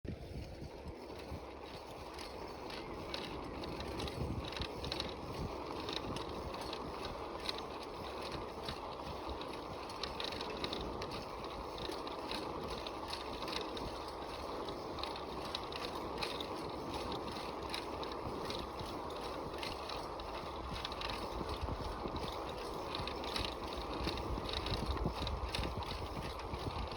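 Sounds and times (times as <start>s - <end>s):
bicycle chain clicking and rattling: 0.1s - 26.9s
bicycle tyres rolling: 0.1s - 26.9s.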